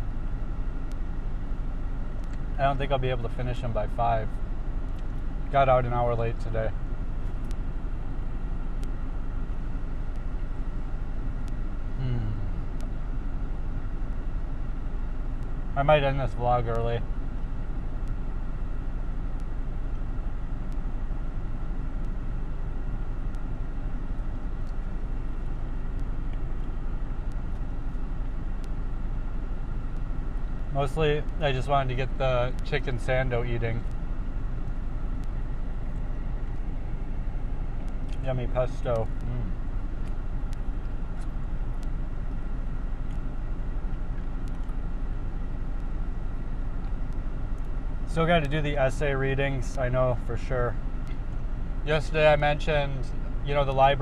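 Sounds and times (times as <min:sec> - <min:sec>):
car cabin rumble and hiss: 0:00.0 - 0:54.0.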